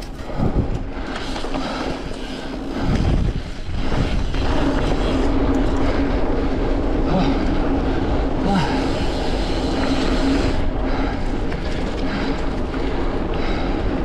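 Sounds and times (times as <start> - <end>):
bike knocking and rattling: 0.0 - 14.0
bike tyres rolling on dirt: 0.0 - 14.0
steady hum: 0.0 - 14.0.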